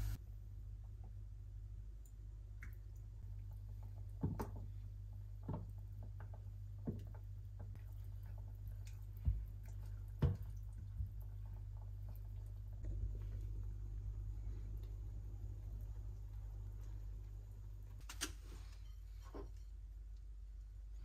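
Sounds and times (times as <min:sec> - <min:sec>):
steady low hum: 0:00.0 - 0:21.0
soft liquid squishes: 0:01.8 - 0:19.2.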